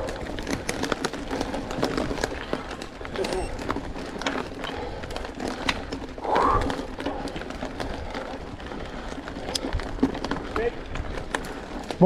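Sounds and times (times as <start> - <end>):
bike clicks and rattles: 0.0 - 12.0.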